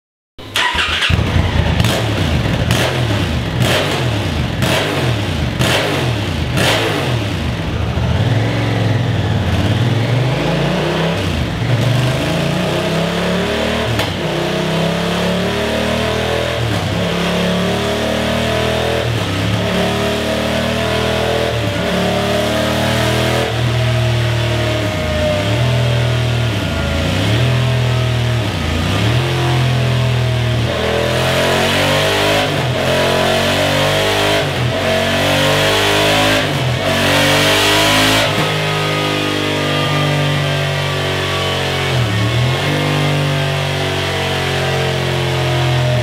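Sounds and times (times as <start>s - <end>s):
motorcycle engine revving: 0.4s - 46.0s.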